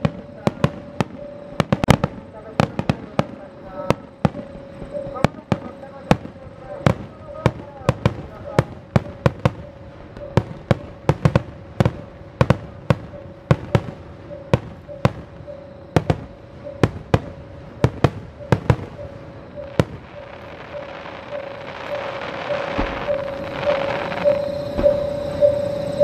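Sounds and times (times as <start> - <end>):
fireworks banging: 0.0 - 26.0
steady pulsing tone: 0.0 - 26.0.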